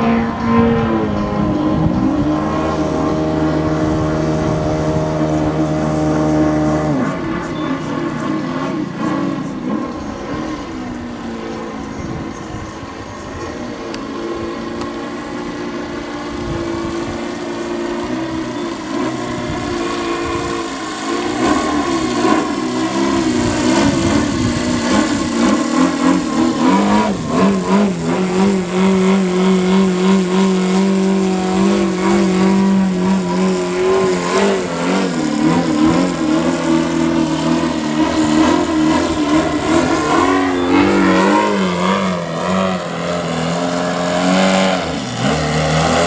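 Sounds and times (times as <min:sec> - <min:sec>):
model plane engine swooping: 0:00.0 - 0:46.0.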